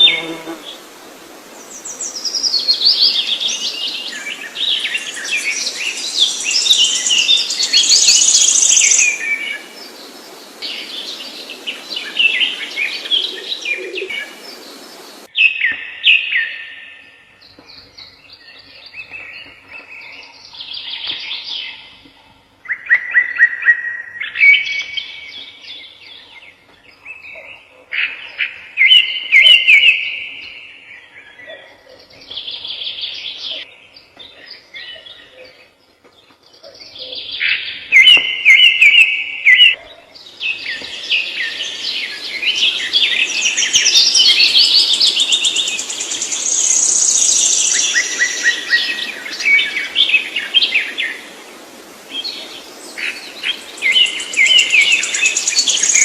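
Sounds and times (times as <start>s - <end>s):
twittering bird chorus: 1.5s - 56.0s
songbirds singing trilled notes: 1.6s - 22.1s, 22.7s - 51.4s, 52.2s - 56.0s.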